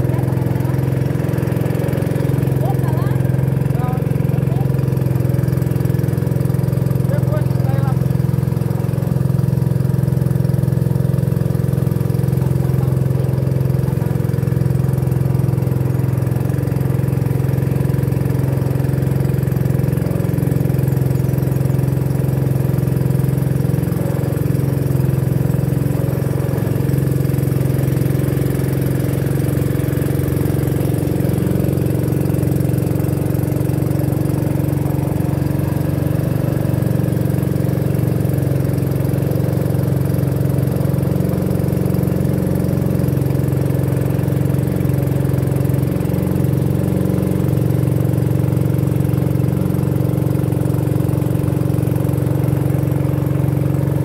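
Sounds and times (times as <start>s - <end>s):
boat motor running: 0.0s - 54.0s.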